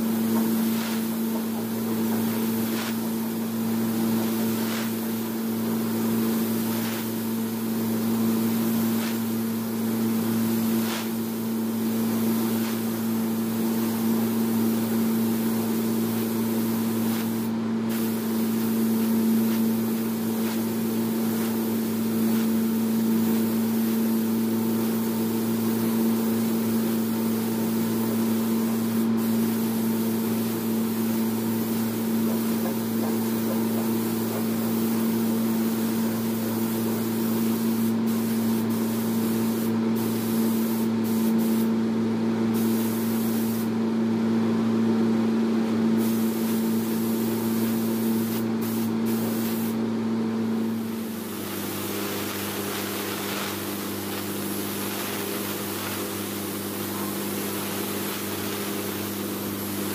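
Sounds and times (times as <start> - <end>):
paint spray gun hissing: 0.0 - 41.8, 42.6 - 43.8, 46.0 - 49.9, 50.6 - 59.9.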